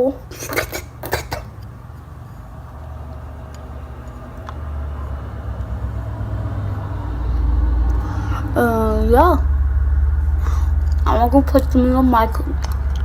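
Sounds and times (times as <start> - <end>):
low steady rumble: 1.5 - 13.0.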